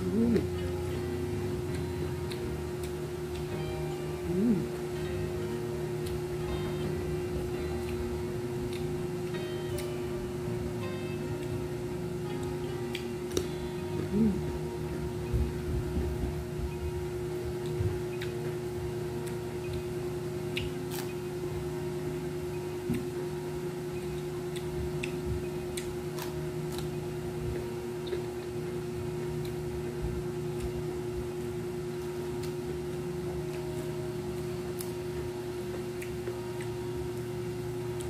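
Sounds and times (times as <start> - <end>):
chewing and crunching: 0.0 - 21.8, 22.4 - 38.0
steady low hum: 0.0 - 38.0.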